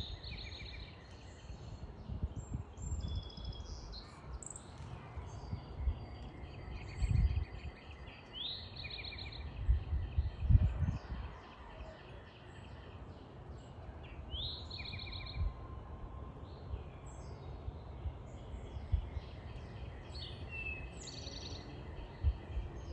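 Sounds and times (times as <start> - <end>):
songbirds chirping: 0.0 - 22.9.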